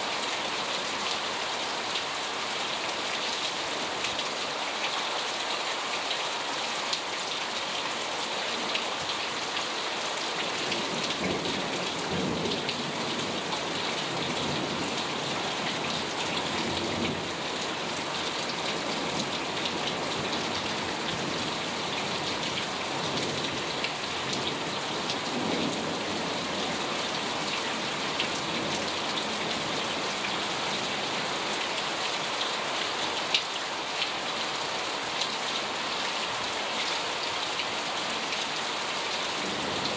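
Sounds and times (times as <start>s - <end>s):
heavy rain on cars and pavement: 0.0s - 39.9s.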